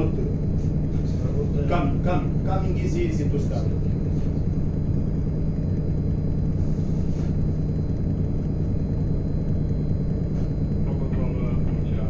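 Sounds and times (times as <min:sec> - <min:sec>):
ship machinery rumbling: 0:00.0 - 0:12.0.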